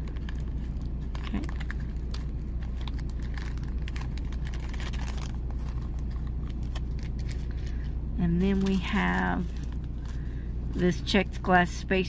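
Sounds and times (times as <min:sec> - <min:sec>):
plastic bag crinkling: 0:00.0 - 0:11.4
steady low hum: 0:00.0 - 0:12.0.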